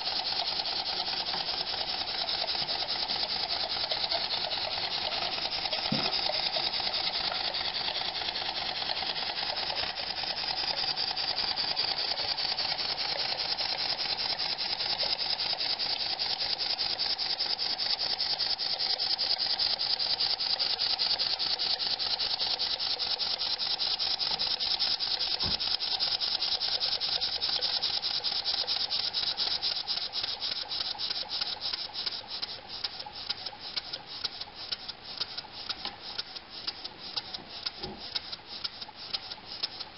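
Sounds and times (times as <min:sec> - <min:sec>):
model steam engine chattering: 0:00.0 - 0:39.9.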